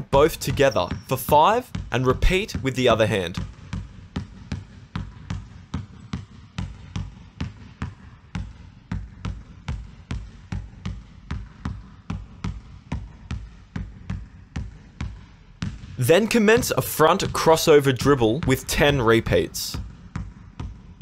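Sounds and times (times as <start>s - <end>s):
basketball dribbling on wooden floor: 0.0s - 21.0s.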